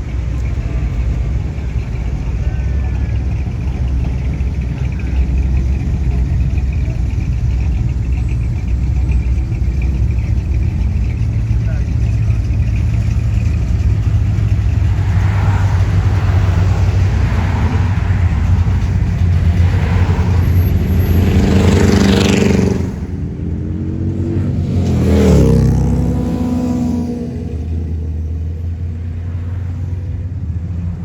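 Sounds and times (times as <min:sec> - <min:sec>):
car engine revving: 0:00.0 - 0:31.0
car engines rumbling past: 0:00.0 - 0:31.0.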